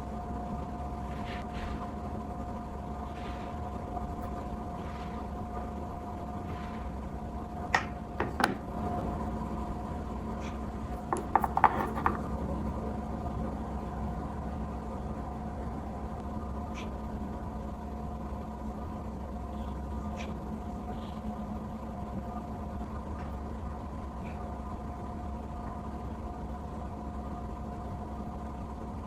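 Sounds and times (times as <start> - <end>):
low hum with faint whine: 0.0 - 29.0.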